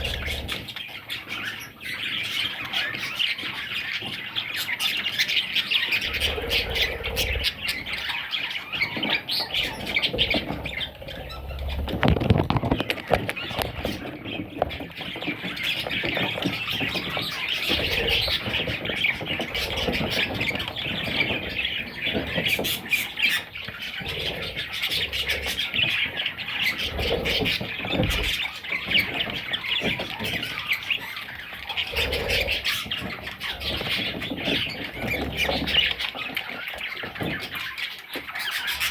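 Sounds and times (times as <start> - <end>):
budgerigar chicks squawking: 0.0 - 38.9.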